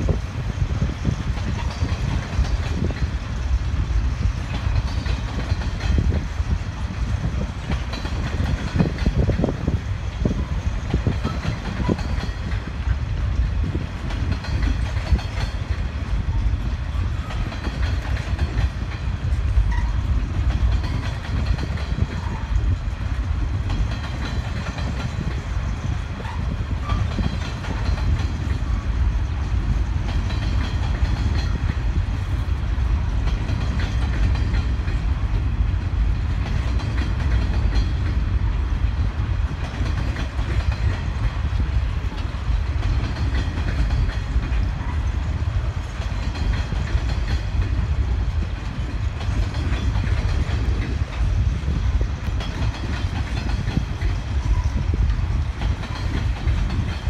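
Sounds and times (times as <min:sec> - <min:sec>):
train wheels rumbling on rails: 0:00.0 - 0:57.0
wheels clickety-clack: 0:00.0 - 0:57.0.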